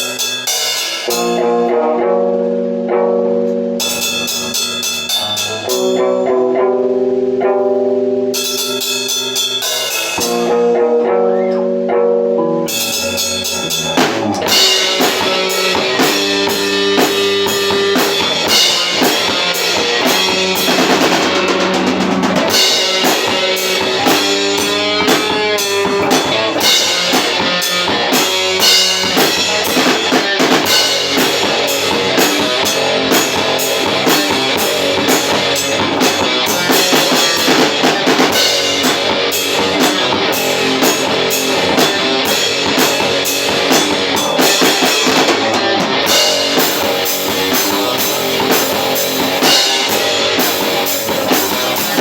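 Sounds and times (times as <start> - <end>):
drum kit: 0.0 - 11.4, 12.6 - 52.0
bass guitar: 0.0 - 52.0
electric guitar: 0.0 - 52.0.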